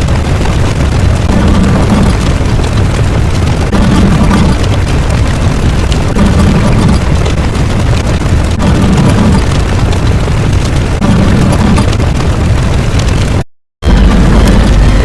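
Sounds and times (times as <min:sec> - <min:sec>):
explosion-like rumble: 0:00.0 - 0:15.0.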